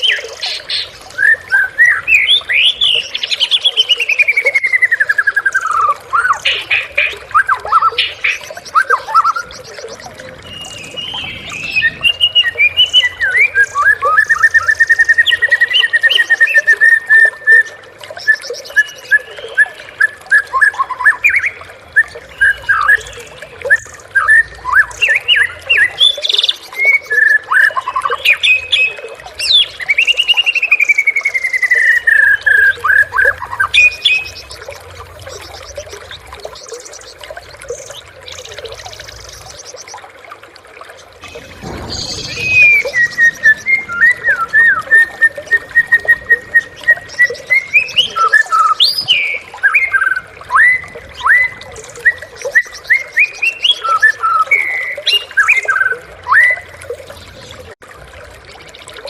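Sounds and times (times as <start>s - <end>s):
songbird singing trills and whistles: 0.0s - 40.0s, 41.2s - 57.3s.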